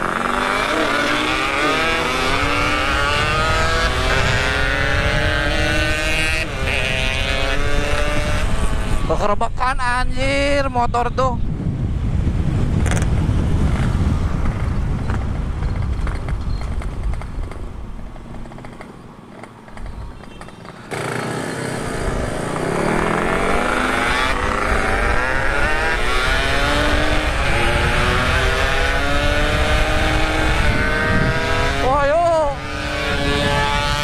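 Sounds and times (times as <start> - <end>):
motorcycle engine accelerating: 0.0 - 9.1, 12.6 - 34.0
wind noise on microphone: 0.0 - 34.0.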